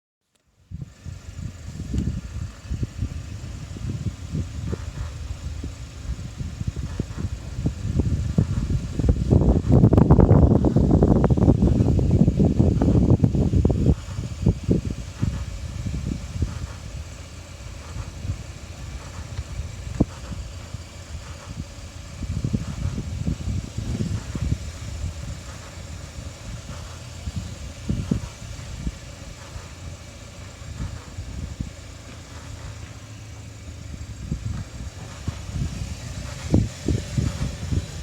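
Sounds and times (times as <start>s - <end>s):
low vehicle rumble: 0.3s - 38.0s
car creaking and knocking: 1.0s - 38.0s.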